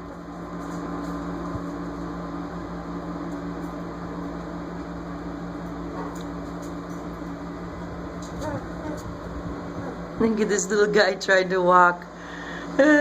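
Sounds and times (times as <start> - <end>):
mechanical hum with low drone: 0.0 - 13.0.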